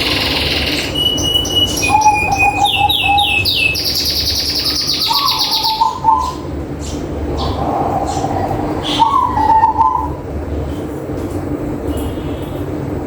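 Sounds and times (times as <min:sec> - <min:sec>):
doves cooing: 0:00.0 - 0:10.8
small birds chirping and trilling: 0:00.0 - 0:11.0.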